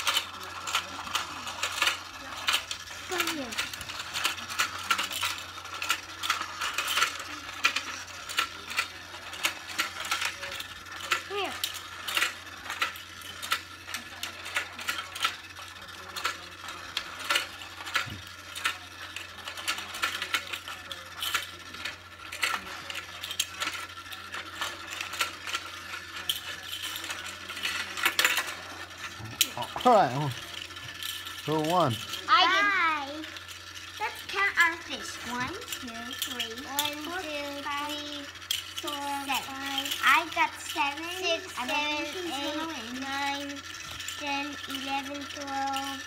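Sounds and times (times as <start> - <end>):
toy motor whirring: 0.0 - 46.0.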